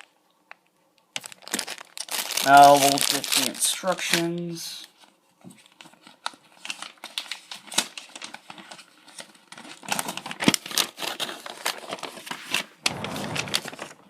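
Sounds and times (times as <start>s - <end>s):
paper leaflet crinkling: 1.2s - 13.9s.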